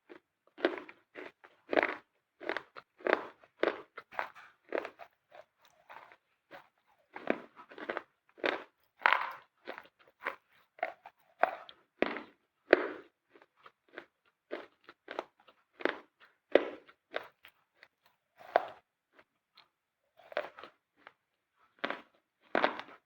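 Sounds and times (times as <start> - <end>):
crunchy food chewing: 0.0 - 23.0.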